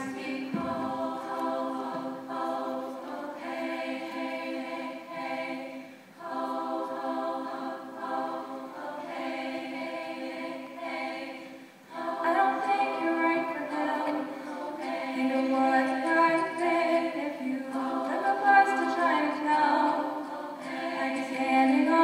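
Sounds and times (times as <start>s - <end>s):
women singing in close harmony: 0.0s - 22.0s.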